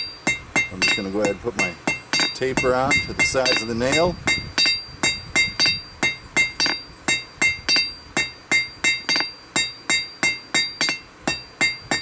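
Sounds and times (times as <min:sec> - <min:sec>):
hammer striking steel on anvil: 0:00.0 - 0:12.0.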